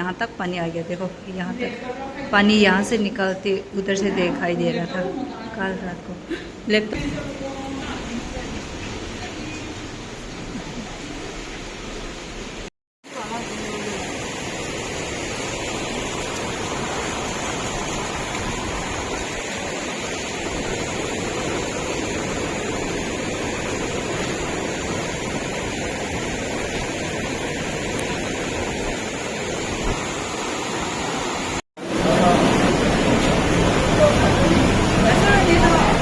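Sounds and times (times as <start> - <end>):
river rushing: 6.9 - 36.0.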